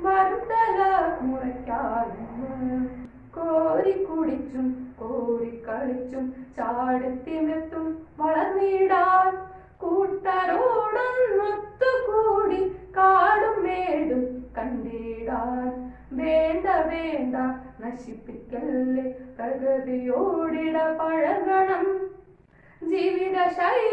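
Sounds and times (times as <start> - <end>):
boy singing a chanting melody: 0.0 - 22.2, 22.8 - 23.9.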